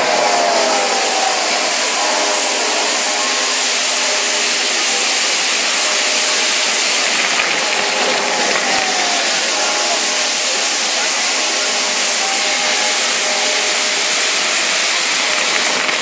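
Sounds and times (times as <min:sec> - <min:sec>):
fireworks wheels hissing: 0:00.0 - 0:16.0.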